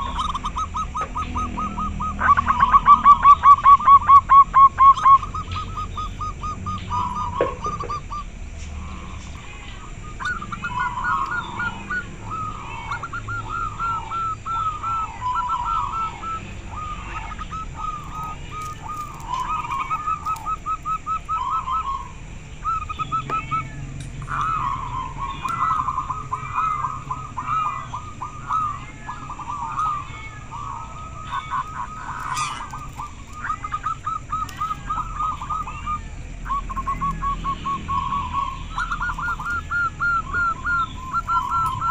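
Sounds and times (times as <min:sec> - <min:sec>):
doves cooing: 0:00.0 - 0:41.9.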